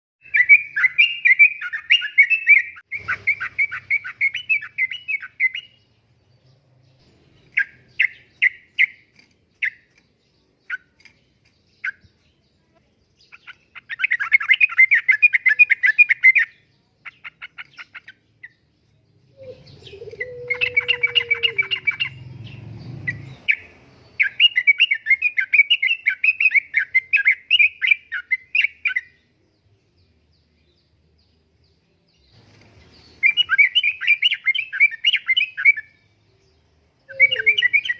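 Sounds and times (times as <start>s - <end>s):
bulbul warbling song: 0.2s - 12.4s, 13.2s - 29.2s, 32.8s - 37.9s.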